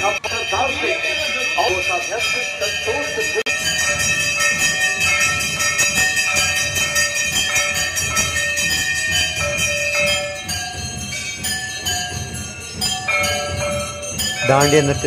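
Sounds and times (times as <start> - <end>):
brass bells clanging: 0.0 - 15.0
rhythmic percussion clatter: 0.0 - 15.0.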